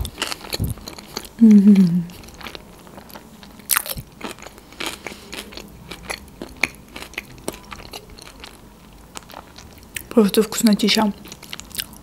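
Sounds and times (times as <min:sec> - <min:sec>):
chewing crunches: 0:00.0 - 0:10.1, 0:11.2 - 0:12.0.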